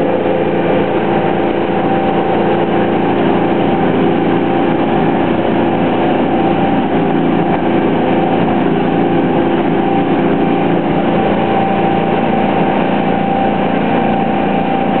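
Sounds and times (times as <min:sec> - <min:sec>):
boat engine running at high revs: 0:00.0 - 0:15.0.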